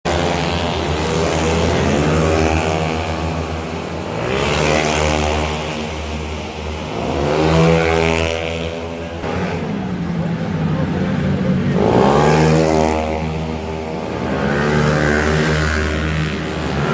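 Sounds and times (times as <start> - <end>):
scooter engines revving: 0.0 - 16.9.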